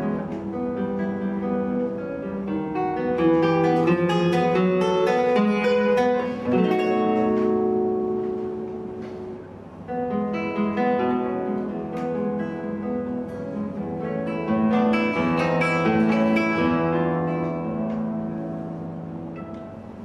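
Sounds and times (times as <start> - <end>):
solo acoustic guitar: 0.0 - 20.0.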